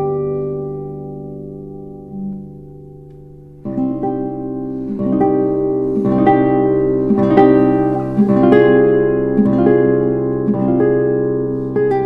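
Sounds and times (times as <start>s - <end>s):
plucked strings gentle melody: 0.0s - 12.0s.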